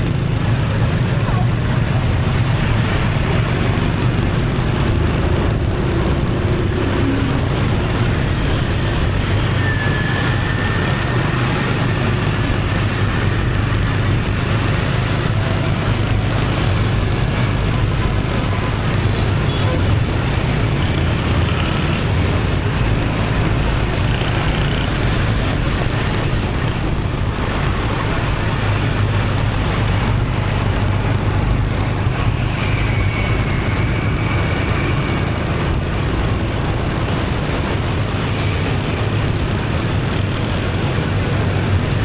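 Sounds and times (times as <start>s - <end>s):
motorbike engine hum: 0.0s - 42.0s
road noise: 0.0s - 42.0s
surrounding traffic: 0.0s - 42.0s.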